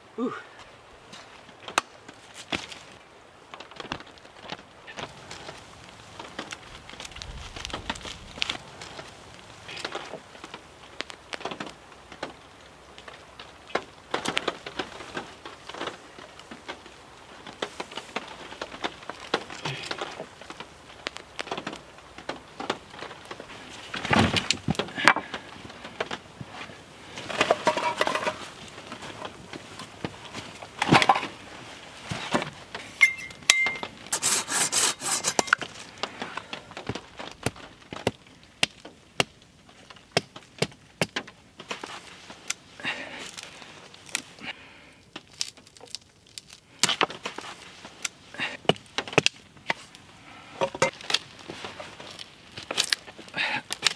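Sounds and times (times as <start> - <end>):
rustling: 0.6 - 53.9
wooden sticks knocking and cracking: 0.6 - 53.9.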